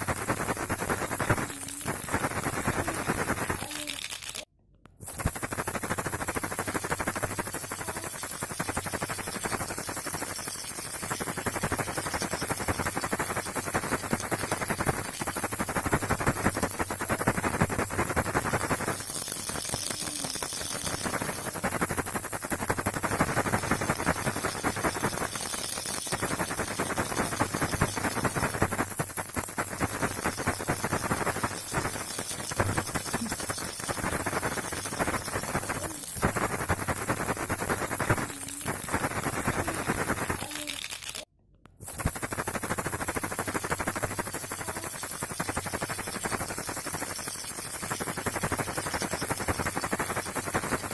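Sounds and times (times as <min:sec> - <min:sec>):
baby rattle shaken: 0:00.0 - 0:50.9.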